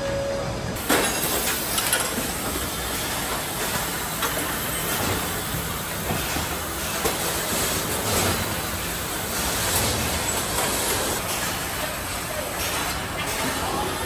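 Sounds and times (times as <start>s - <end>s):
factory machinery din: 0.0s - 14.0s.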